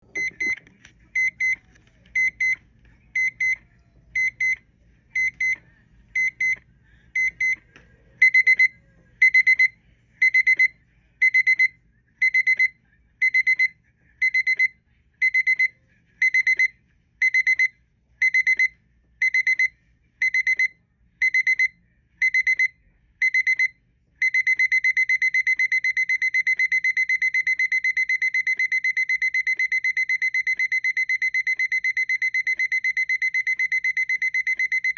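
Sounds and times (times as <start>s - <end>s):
digital alarm clock beeping: 0.2s - 0.6s, 1.2s - 1.6s, 2.2s - 2.6s, 3.2s - 3.6s, 4.2s - 4.6s, 5.2s - 5.6s, 6.2s - 6.6s, 7.2s - 7.6s, 8.2s - 34.9s.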